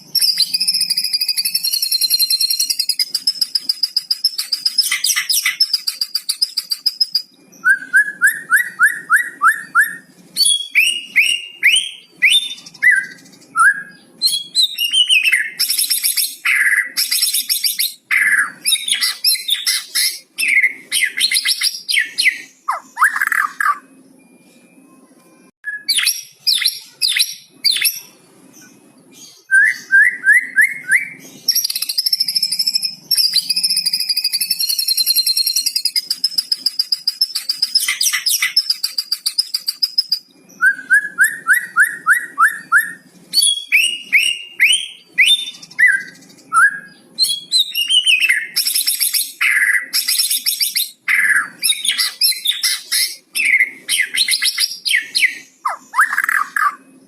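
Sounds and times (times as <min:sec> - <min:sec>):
songbird singing varied song: 0:00.0 - 0:24.3, 0:25.6 - 0:57.0.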